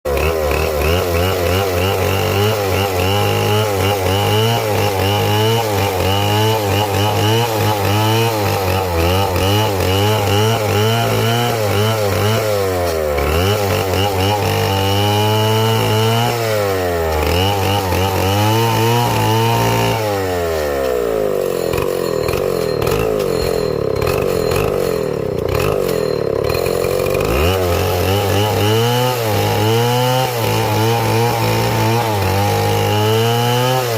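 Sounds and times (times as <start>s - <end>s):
chainsaw cutting at high revs: 0.0s - 33.9s.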